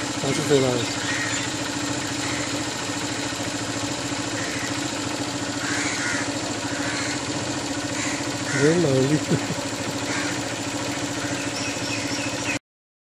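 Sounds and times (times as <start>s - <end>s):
mechanical engine hum: 0.0s - 12.6s.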